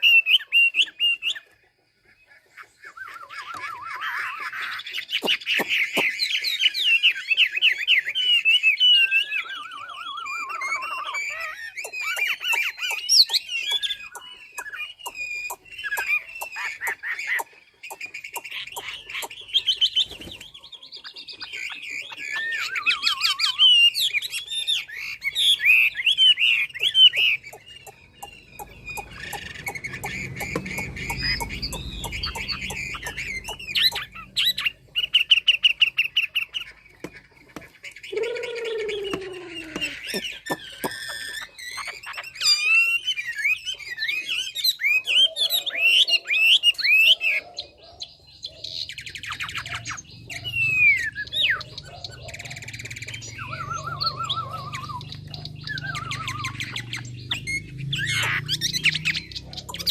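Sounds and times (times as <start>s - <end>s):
songbird singing warbled phrases: 0.0s - 59.9s.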